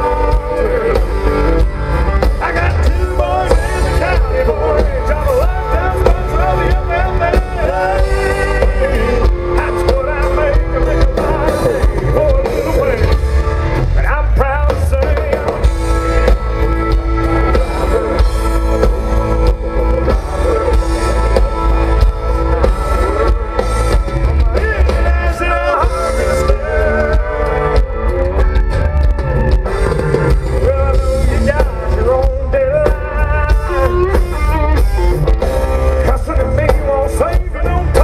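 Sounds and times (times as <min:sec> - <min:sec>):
person singing: 0:00.0 - 0:13.2, 0:17.5 - 0:35.0
drum kit beat: 0:00.0 - 0:38.0
live country-rock band: 0:00.0 - 0:38.0.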